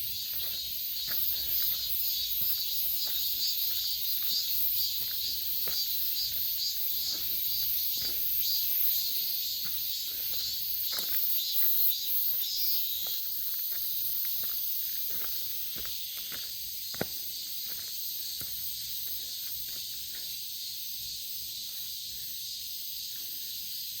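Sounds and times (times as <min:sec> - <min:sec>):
footsteps on forest path: 0:00.0 - 0:24.0
insects chorus: 0:00.0 - 0:24.0.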